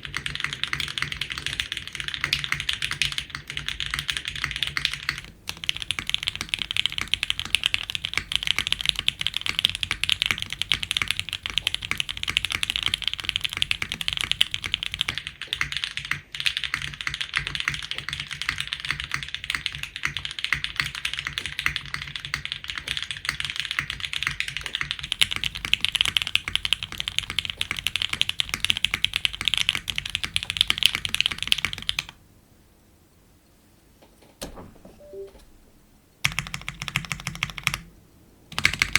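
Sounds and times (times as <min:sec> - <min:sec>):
fast mechanical keyboard typing: 0:00.0 - 0:32.2, 0:36.2 - 0:37.9, 0:38.5 - 0:38.9.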